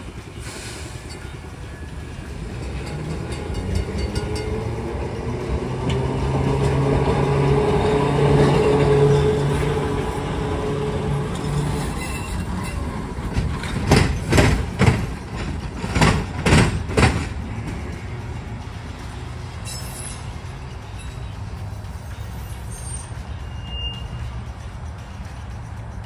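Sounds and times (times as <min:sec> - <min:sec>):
rail wheels clacking over crossing: 0:00.0 - 0:26.0.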